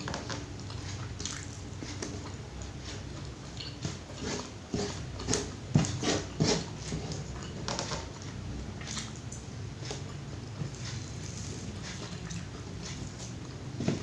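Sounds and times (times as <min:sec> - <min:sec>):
person chewing and smacking: 0:00.0 - 0:07.5, 0:08.1 - 0:14.0.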